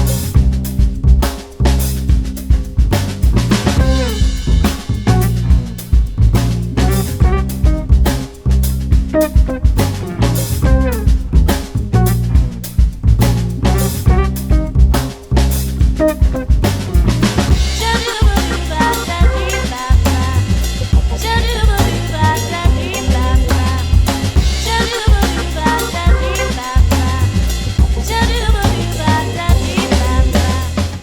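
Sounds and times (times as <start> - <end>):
music with heavy drum beat: 0.0 - 31.0.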